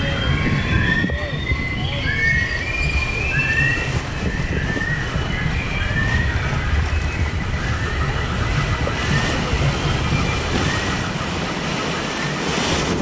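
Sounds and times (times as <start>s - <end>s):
faint rising squeaks: 0.0s - 12.4s
rapids rushing and splashing: 0.0s - 13.0s.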